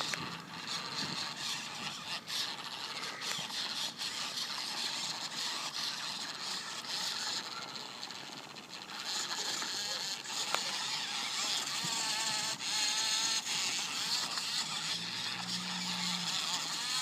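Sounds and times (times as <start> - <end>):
rc car rushing and rattling: 0.0 - 17.0.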